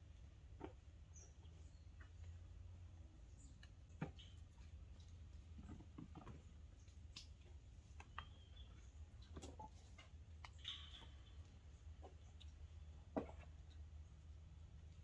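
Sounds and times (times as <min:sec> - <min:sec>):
faint low outdoor rumble: 0:00.0 - 0:15.0.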